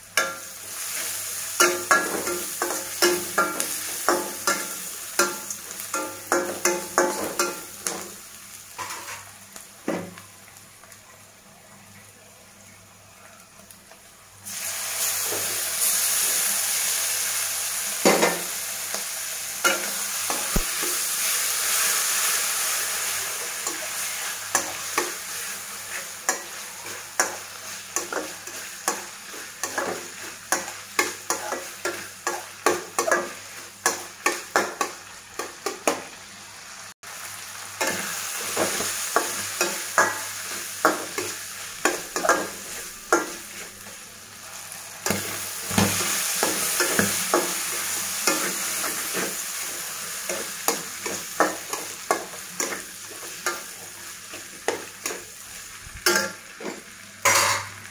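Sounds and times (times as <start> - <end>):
frying sizzle: 0.0 - 57.9.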